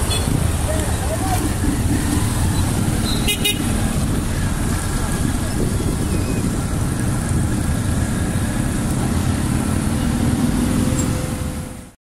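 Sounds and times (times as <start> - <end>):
motorcycle engine running: 0.0 - 11.6
wind and road noise: 0.0 - 12.0.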